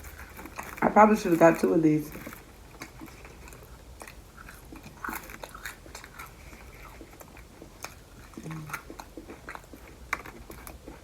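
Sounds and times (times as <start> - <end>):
close chewing and biting: 0.0 - 11.0
food crunching: 0.0 - 11.0.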